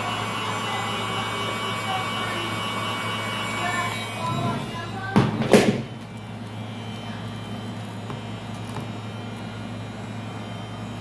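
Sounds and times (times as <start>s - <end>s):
heat gun blower humming: 0.0s - 11.0s.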